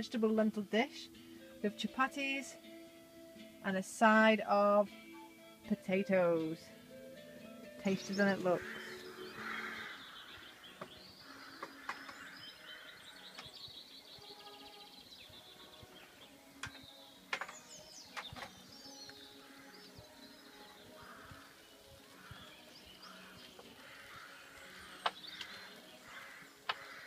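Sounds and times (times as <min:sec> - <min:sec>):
small birds singing and chirping: 0:00.0 - 0:27.0.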